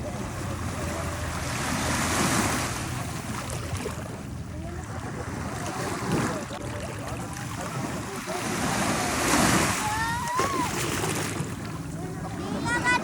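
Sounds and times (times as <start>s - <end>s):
low rumble of sea: 0.0s - 13.0s
wave breaking and washing in: 0.0s - 13.0s.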